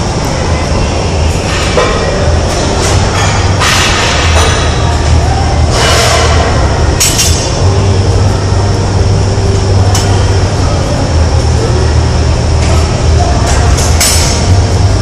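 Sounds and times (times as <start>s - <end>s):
low rumble in gym hall: 0.0s - 15.0s.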